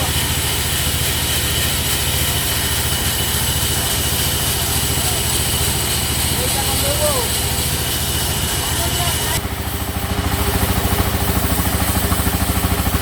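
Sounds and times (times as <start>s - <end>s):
sawmill engine idling: 0.0s - 13.0s.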